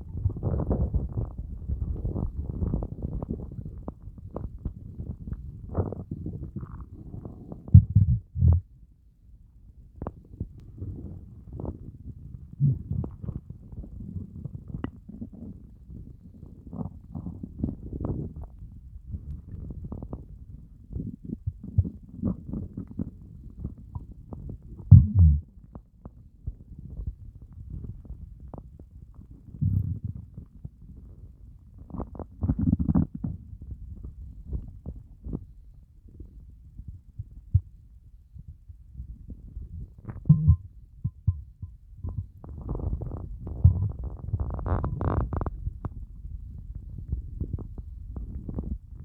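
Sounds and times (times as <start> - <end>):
stomach growling and gurgling: 0.0 - 8.8, 10.0 - 37.8, 38.4 - 49.0.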